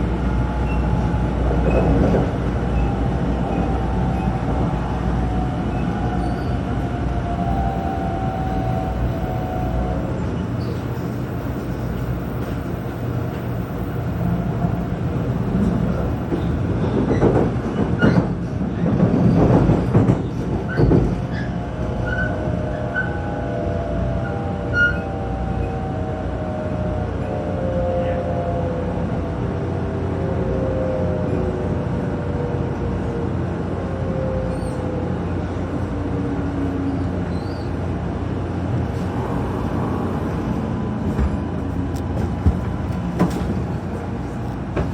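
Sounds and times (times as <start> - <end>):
train rumbling on rails: 0.0 - 44.9.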